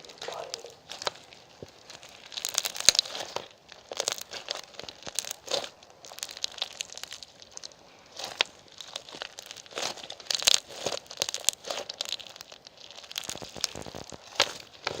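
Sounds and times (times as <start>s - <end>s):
crinkling and crackling: 0.0s - 15.0s.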